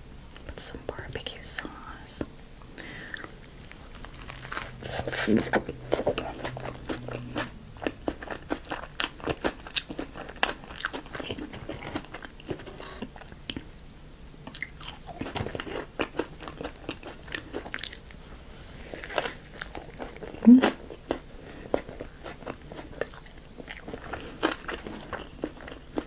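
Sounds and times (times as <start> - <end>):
chewing crunchy food: 2.6 - 13.7, 14.4 - 26.0.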